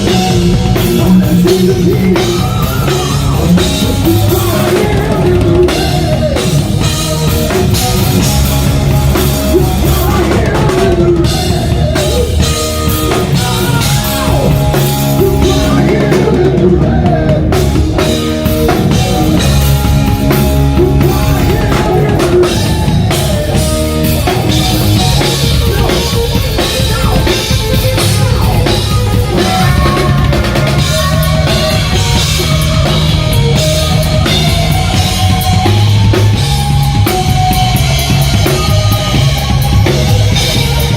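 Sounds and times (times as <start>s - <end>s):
drum kit and bass beat: 0.0s - 40.9s
rock band playing live: 0.0s - 40.9s.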